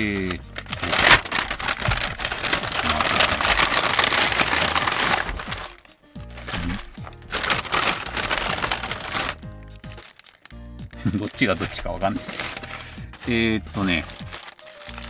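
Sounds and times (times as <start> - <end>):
paper bag rustling and crinkling: 0.0 - 15.0.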